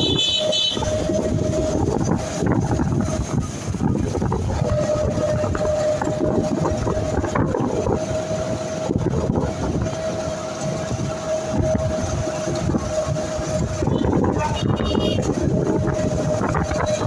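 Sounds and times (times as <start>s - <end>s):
vehicle engine running: 0.0s - 17.0s
wind on microphone: 0.0s - 17.0s.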